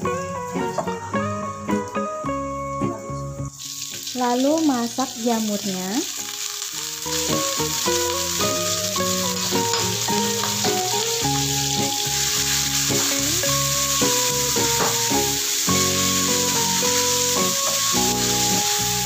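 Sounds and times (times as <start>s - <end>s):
background music: 0.0s - 19.0s
mushrooms sizzling in oil: 0.0s - 19.0s.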